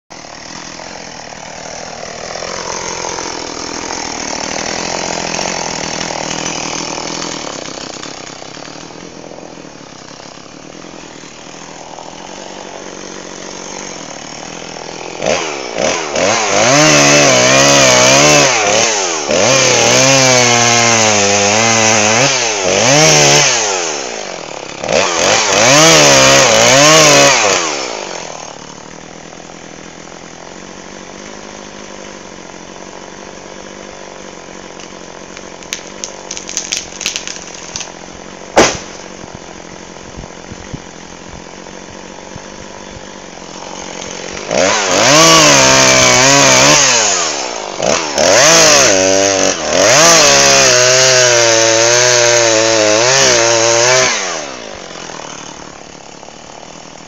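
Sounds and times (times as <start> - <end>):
chainsaw cutting wood: 0.1 - 57.0.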